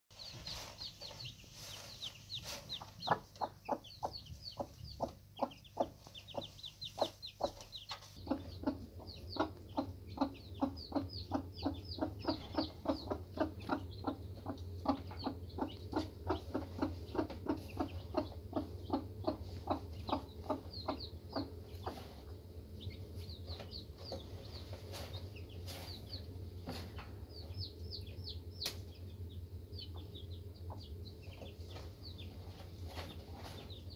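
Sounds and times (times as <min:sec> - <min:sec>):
chicks peeping: 0:00.1 - 0:33.9
hen clucking: 0:00.2 - 0:33.9.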